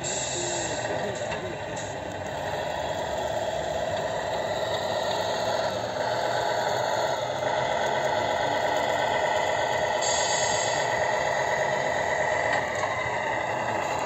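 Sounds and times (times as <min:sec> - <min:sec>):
toy truck motor running: 0:00.0 - 0:14.0.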